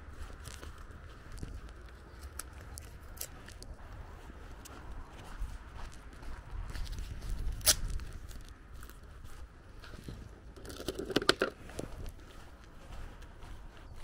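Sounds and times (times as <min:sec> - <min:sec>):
footsteps on wet dirt: 0:00.0 - 0:14.0.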